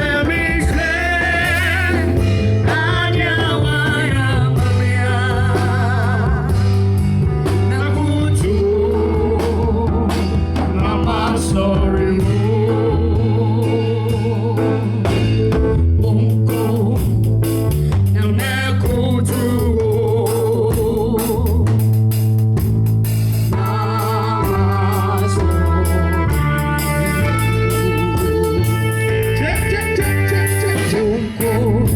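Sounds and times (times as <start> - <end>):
live band with singer: 0.0 - 31.9.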